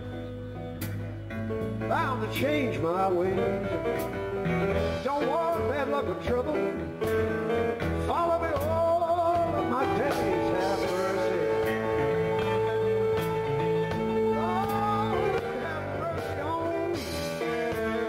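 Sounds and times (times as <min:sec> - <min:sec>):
live band playing: 0:00.0 - 0:18.0
man singing: 0:01.8 - 0:18.0.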